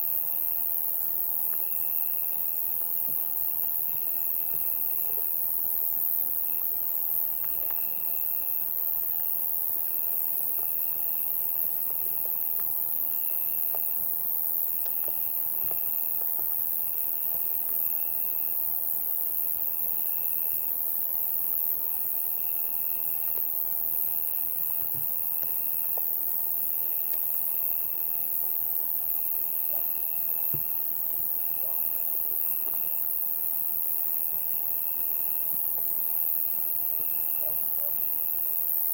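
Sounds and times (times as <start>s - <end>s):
cricket trill: 0.0s - 38.9s.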